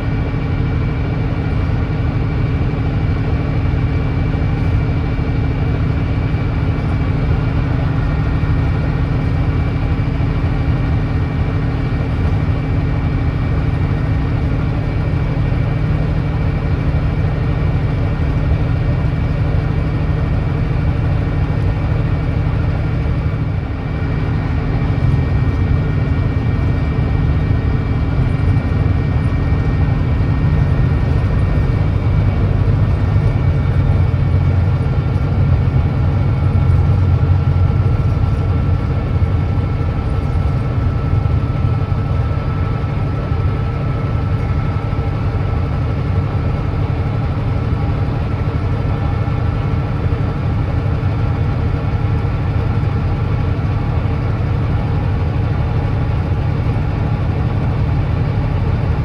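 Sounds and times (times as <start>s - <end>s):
diesel bus engine running: 0.0s - 59.0s.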